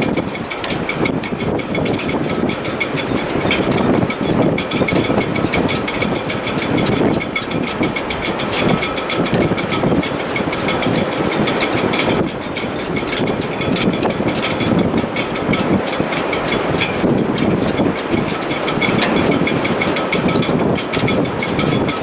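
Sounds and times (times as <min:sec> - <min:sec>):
fast even ticking: 0:00.0 - 0:22.0
wind rushing through rigging: 0:00.0 - 0:22.0.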